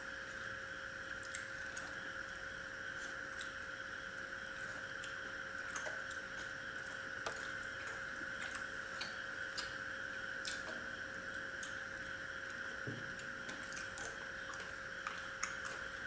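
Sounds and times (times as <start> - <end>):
steady background hum: 0.0 - 16.0
eating by hand from steel bowls: 2.8 - 16.0.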